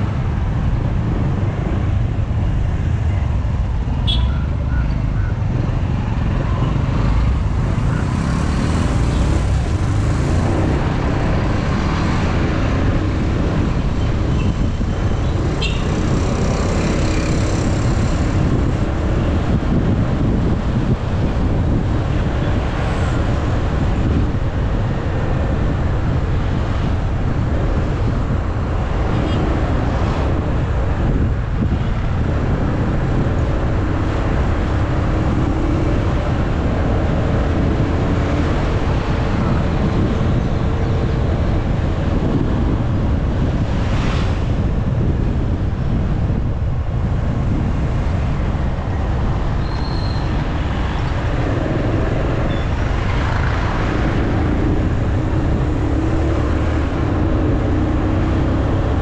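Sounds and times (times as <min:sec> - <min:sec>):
road and traffic noise: 0:00.0 - 0:59.0
wind on microphone: 0:00.0 - 0:59.0.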